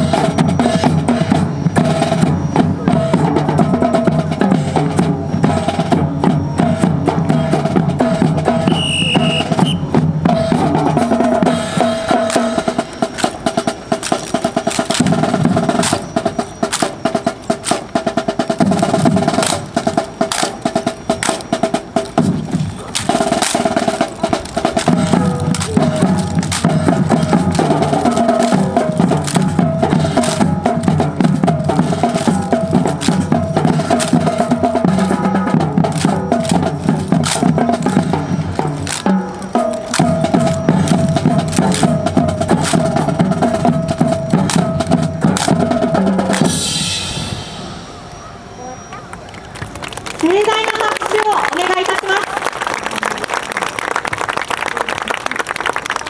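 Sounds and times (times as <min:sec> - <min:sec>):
snare drum cadence with rolls: 0:00.0 - 0:56.0.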